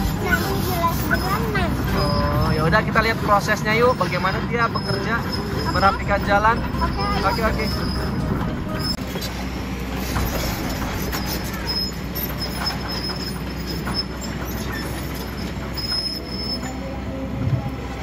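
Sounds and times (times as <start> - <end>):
high-pitched metal squeaks: 0.0 - 16.9
diesel engine running under load: 0.0 - 18.0.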